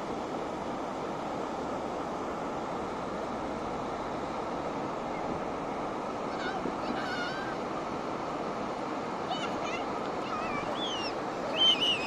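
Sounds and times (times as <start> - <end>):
sea surf breaking: 0.0 - 12.0.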